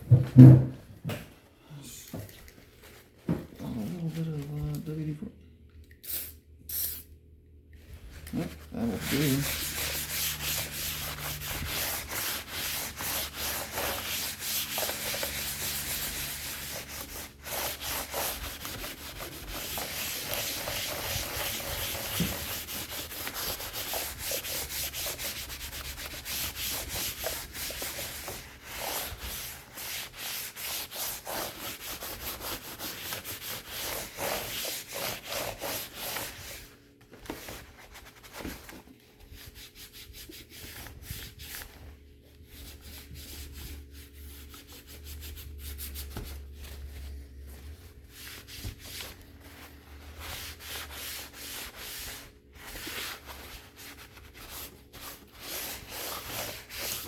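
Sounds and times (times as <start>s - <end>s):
paper towel scrubbing laptop casing: 8.2s - 38.8s, 39.5s - 57.0s.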